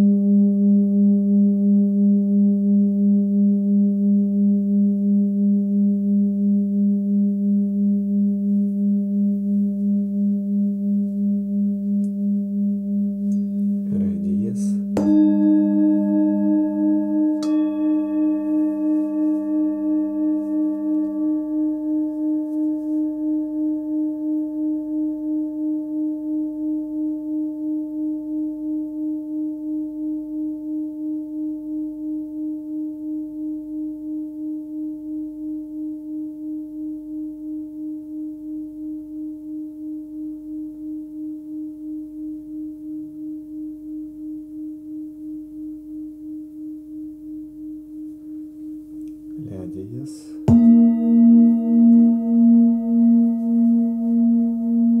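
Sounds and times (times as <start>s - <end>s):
lower singing bowl tone: 0.0s - 55.0s
singing bowl ringing: 0.0s - 55.0s.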